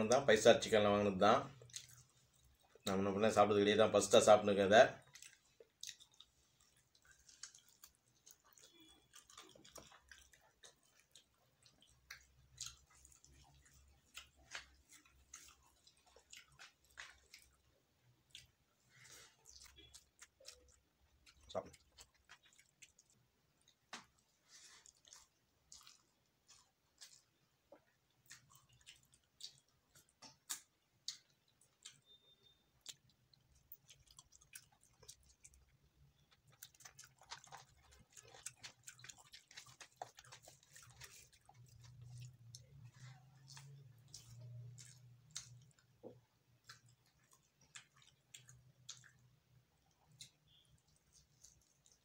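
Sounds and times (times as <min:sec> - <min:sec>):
chewing and biting food: 0:01.3 - 0:52.0.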